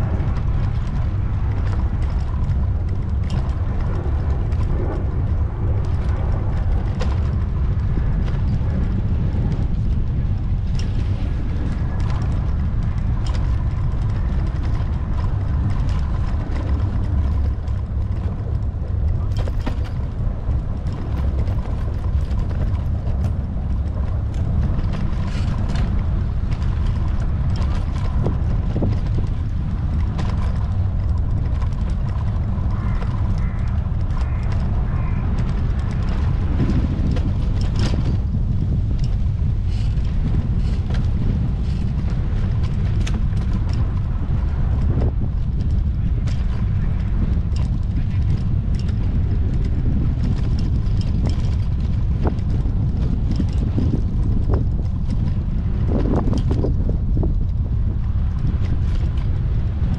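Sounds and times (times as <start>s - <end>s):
bicycle clicks and rattles: 0.0s - 59.9s
bicycle rolling on pavement: 0.0s - 59.9s
low rumble of wind: 0.0s - 59.9s.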